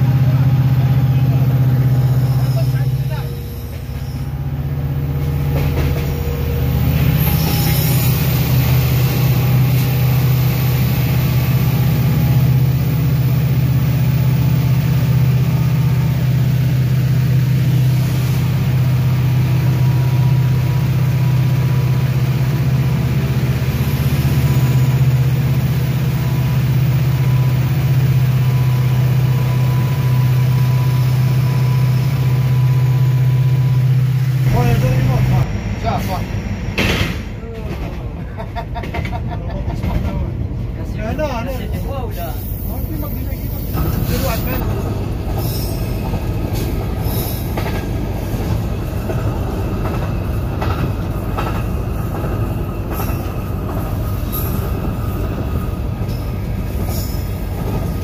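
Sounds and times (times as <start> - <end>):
locomotive engine drone: 0.0 - 40.9, 42.2 - 58.0
train rumble: 0.0 - 58.0.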